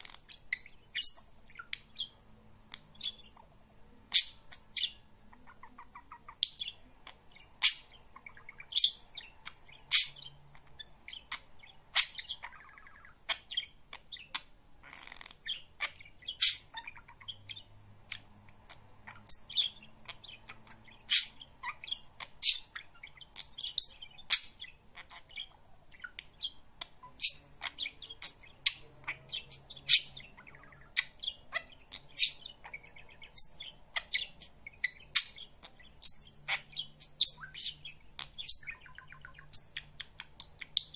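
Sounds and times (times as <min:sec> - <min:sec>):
budgerigar chirping: 0:00.0 - 0:03.5, 0:04.1 - 0:40.9
budgerigar warbling chatter: 0:04.1 - 0:40.9.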